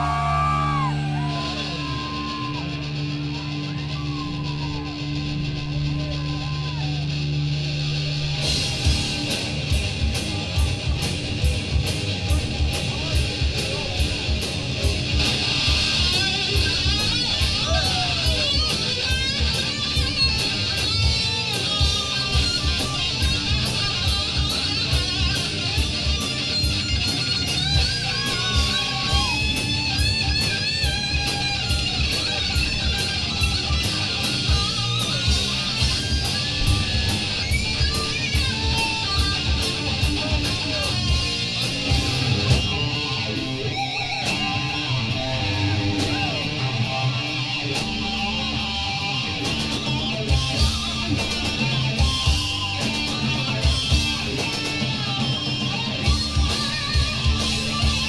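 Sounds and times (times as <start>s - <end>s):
drums with cymbal hits: 0.0s - 46.9s, 47.5s - 58.0s
bass guitar: 0.0s - 58.0s
electric guitar lead: 0.0s - 58.0s
rhythm guitar strumming: 0.0s - 58.0s.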